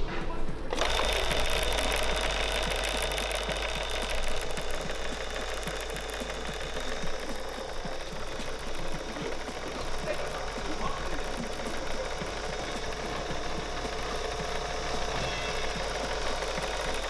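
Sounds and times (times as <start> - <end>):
conveyor motor whine: 0.0 - 17.0
fast light ticking: 0.7 - 17.0.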